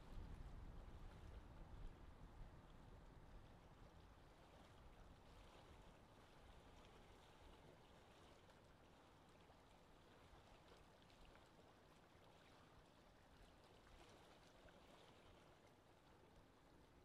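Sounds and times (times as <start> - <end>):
soft water sounds: 0.0 - 17.0
wind: 0.0 - 17.0.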